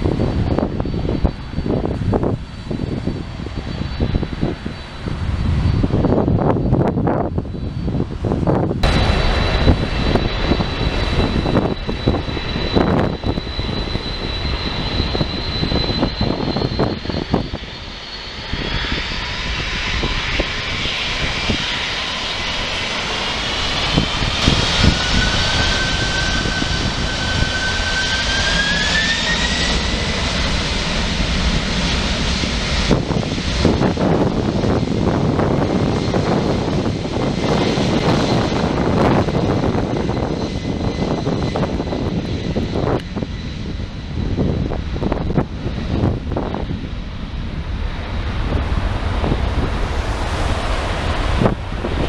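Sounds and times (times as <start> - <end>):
jet engines whining and rumbling: 0.0 - 52.0
wind buffeting microphone: 0.0 - 52.0.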